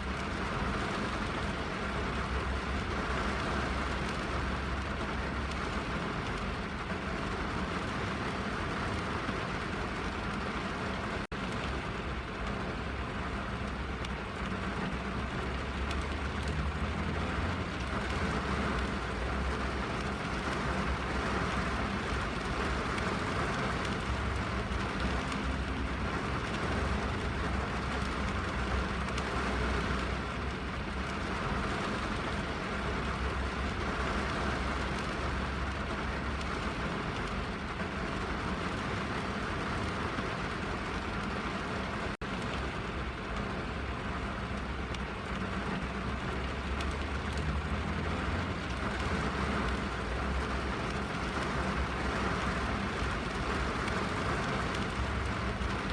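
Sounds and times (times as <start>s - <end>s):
rain drumming on car roof: 0.0s - 55.9s.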